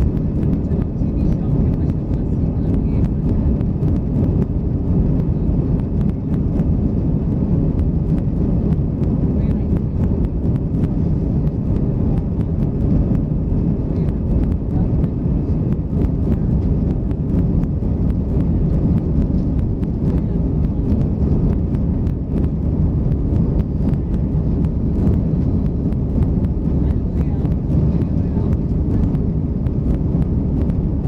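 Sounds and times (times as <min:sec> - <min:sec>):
airplane cabin engine roar: 0:00.0 - 0:31.0.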